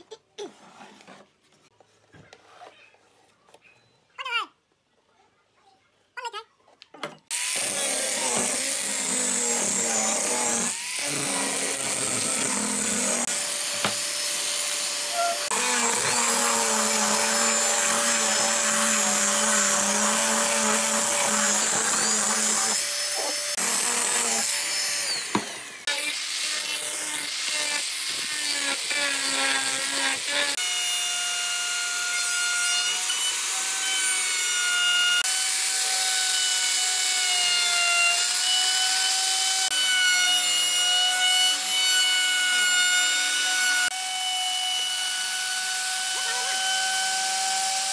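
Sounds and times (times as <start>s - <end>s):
angle grinder sanding wood: 7.3s - 47.9s
router whining cutting wood: 7.3s - 47.9s.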